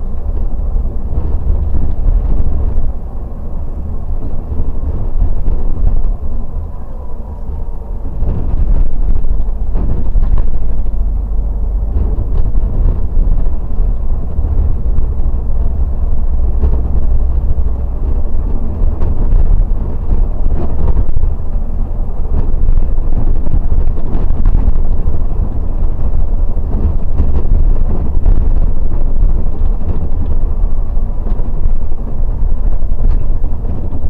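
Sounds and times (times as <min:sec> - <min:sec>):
bus engine rumble: 0:00.0 - 0:34.0
road noise: 0:00.0 - 0:34.0.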